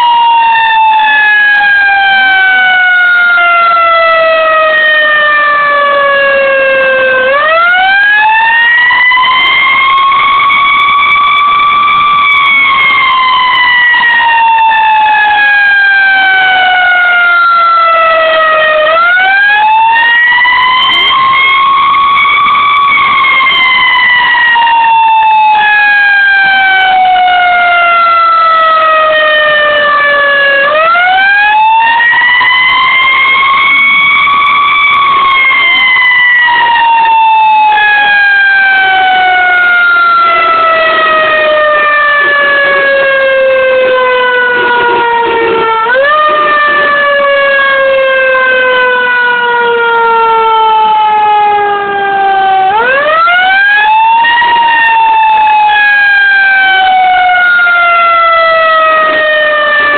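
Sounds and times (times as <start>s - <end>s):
fire engine siren wailing: 0.0s - 59.9s.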